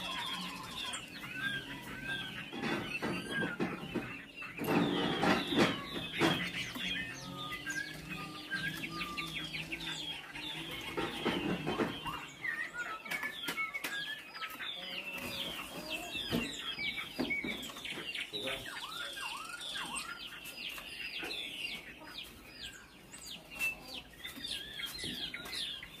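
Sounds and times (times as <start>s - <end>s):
bird singing whistled notes: 0.0s - 21.8s, 22.6s - 26.0s.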